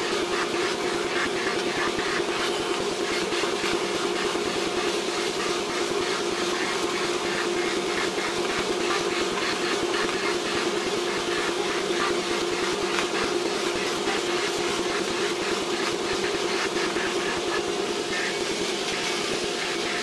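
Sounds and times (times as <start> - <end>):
bandsaw cutting wood: 0.0 - 20.0.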